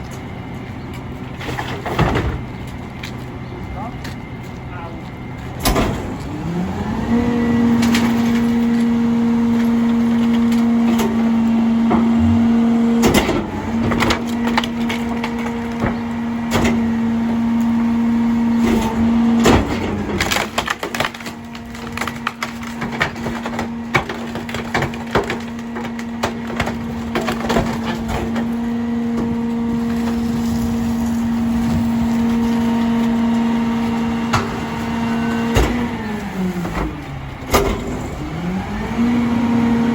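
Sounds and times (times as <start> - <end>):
trash and wood being crushed: 0.0 - 3.4, 4.0 - 39.9
garbage truck diesel engine: 0.0 - 39.9.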